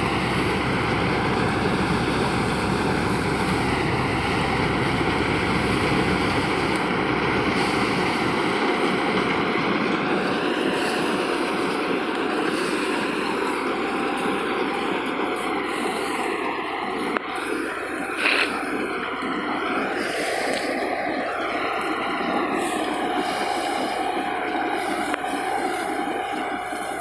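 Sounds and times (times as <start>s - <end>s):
combine harvester running: 0.0s - 27.0s.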